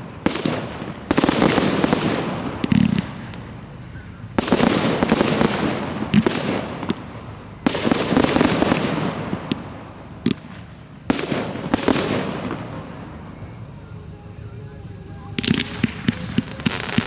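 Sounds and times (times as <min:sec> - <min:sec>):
fireworks shells bursting: 0:00.0 - 0:13.8, 0:15.3 - 0:17.0.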